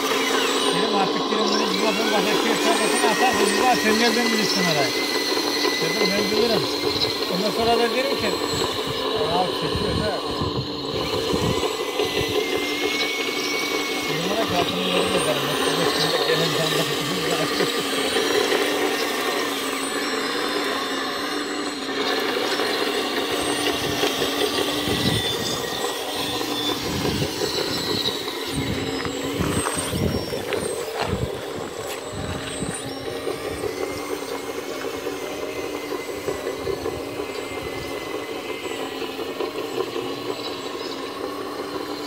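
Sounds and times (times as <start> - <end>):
hydraulic pump whining: 0.0 - 42.0.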